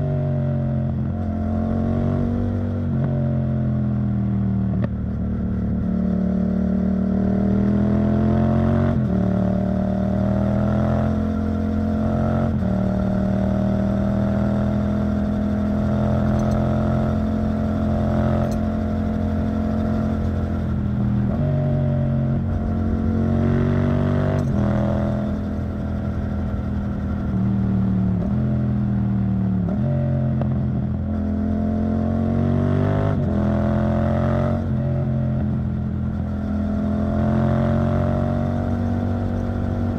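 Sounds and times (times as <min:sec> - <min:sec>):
motorcycle engine through gears: 0:00.0 - 0:39.9.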